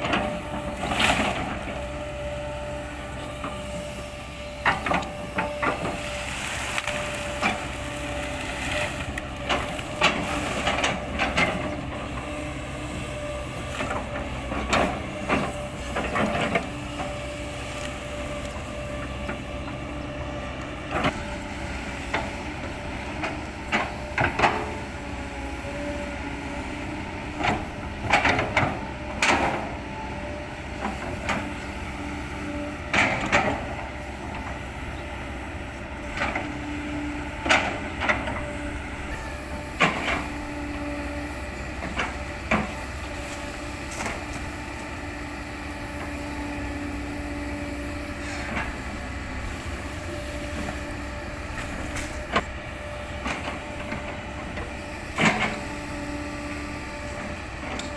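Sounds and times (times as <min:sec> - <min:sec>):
excavator hydraulic whine: 0:00.0 - 0:57.9.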